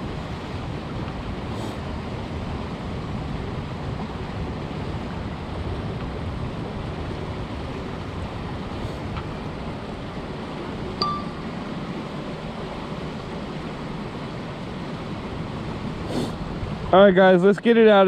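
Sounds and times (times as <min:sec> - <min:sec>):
wind buffeting microphone: 0:00.0 - 0:17.0
river water rushing: 0:00.0 - 0:18.0.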